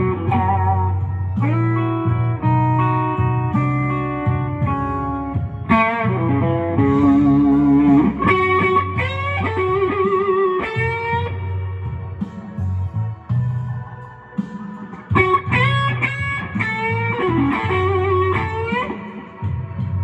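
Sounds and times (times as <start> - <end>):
electric guitar blues lead: 0.0 - 12.8, 14.9 - 20.0
bass line: 0.0 - 20.0.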